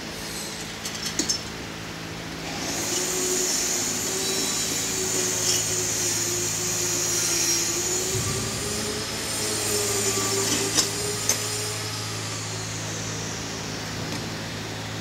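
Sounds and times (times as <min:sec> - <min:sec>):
machine humming and hissing: 0:00.0 - 0:15.0.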